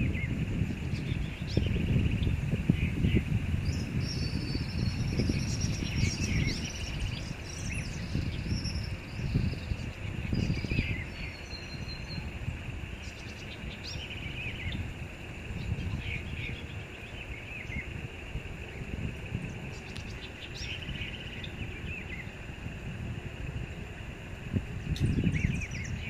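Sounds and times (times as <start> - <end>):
birds chirping: 0.0 - 26.0
high insect drone: 0.0 - 26.0.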